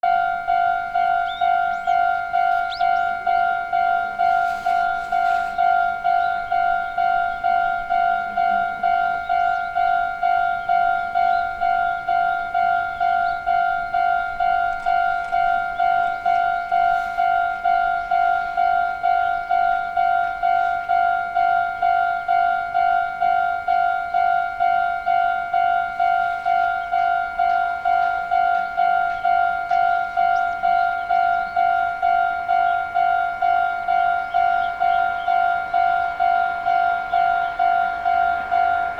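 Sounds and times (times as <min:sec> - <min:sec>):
level crossing alarm dinging: 0:00.0 - 0:38.9.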